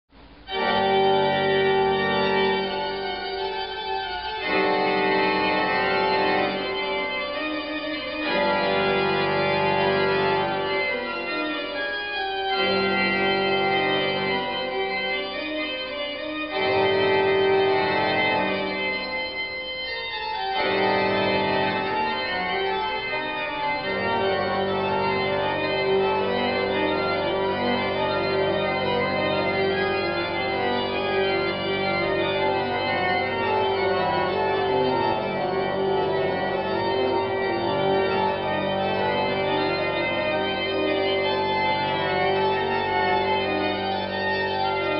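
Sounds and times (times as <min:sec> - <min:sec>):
organ music slow chords: 0:00.3 - 0:44.9.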